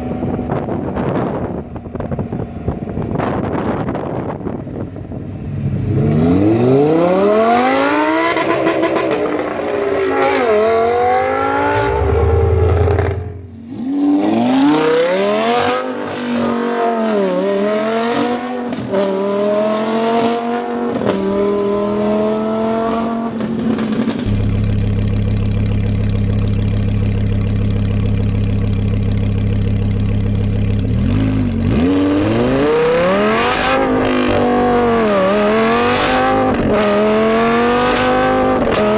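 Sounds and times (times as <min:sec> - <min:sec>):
sports car engine accelerating: 0:00.0 - 0:38.9.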